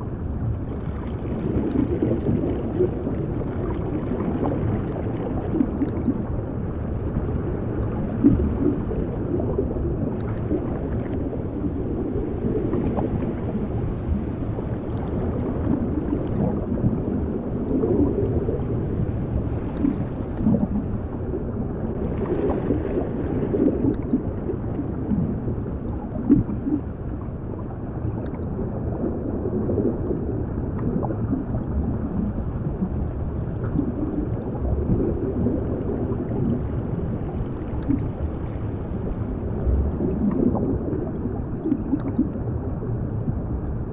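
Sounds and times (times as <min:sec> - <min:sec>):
low underwater rumble: 0:00.0 - 0:43.9
water bubbling and gurgling: 0:00.0 - 0:43.9.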